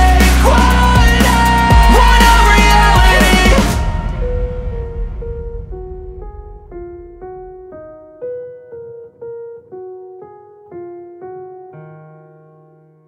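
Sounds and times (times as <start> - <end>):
piano-like keyboard notes: 0.0 - 13.0.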